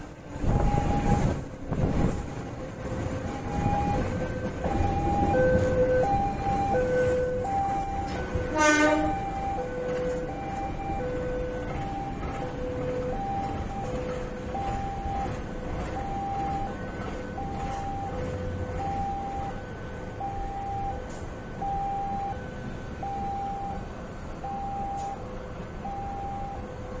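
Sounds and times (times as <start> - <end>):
train rumbling: 0.0 - 27.0
two-tone warning signal: 0.3 - 1.4, 3.4 - 27.0.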